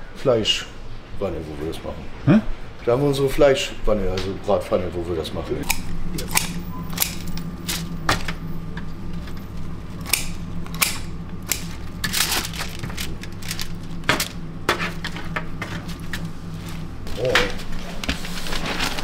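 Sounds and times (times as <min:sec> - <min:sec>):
low hum of kitchen equipment: 0:00.0 - 0:19.0.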